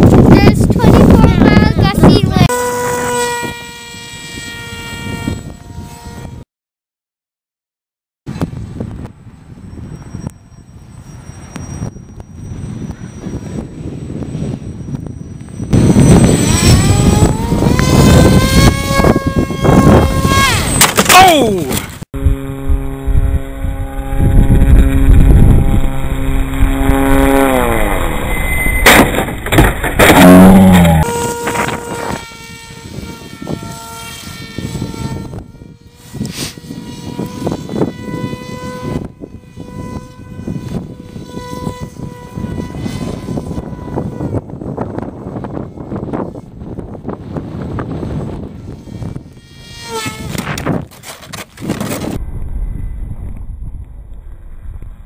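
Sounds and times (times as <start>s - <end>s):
electric propeller motor whining: 0.0s - 6.4s, 9.5s - 53.4s
wind buffeting microphone: 0.0s - 6.4s, 8.3s - 20.8s, 22.2s - 55.0s.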